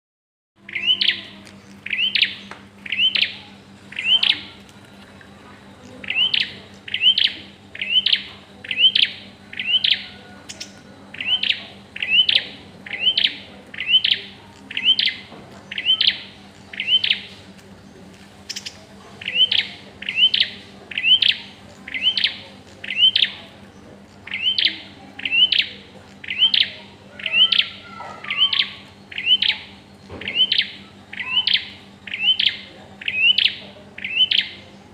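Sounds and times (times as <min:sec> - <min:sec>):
bird chirping: 0:00.6 - 0:04.6, 0:05.8 - 0:34.7
faint steady hum: 0:00.6 - 0:34.9.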